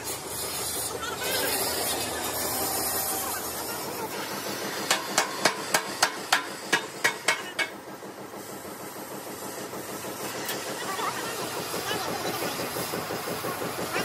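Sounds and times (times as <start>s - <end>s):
gas cutting torch hissing: 0.0s - 14.0s.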